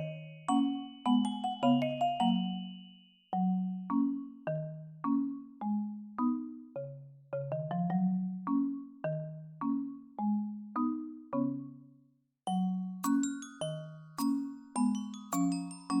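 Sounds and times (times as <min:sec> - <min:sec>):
marimba-like mallet tune: 0:00.0 - 0:16.0.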